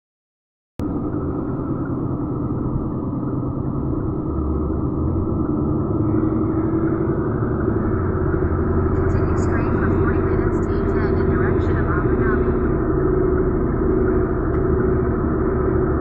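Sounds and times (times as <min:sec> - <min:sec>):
car tyres and engine rumble: 0:00.9 - 0:16.0.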